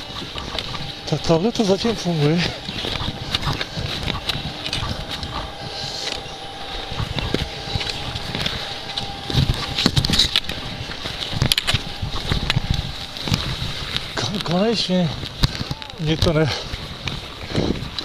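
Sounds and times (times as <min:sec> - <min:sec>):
skis scraping on packed snow: 0:00.0 - 0:18.0
wind rumble: 0:00.0 - 0:18.0.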